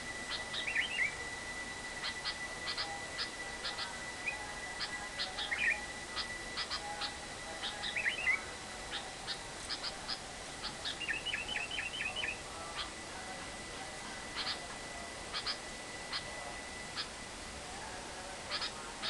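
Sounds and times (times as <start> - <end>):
lovebird calling: 0.0 - 1.3, 1.9 - 13.2, 13.8 - 17.2, 18.4 - 19.0
faint steady high tone: 0.0 - 19.0.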